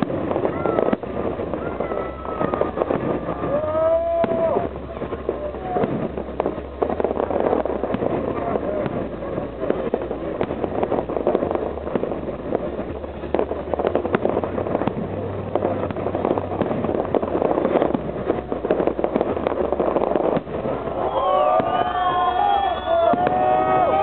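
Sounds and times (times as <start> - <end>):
fireworks bursts and crackles: 0.0 - 24.0
fireworks whistles: 0.0 - 24.0.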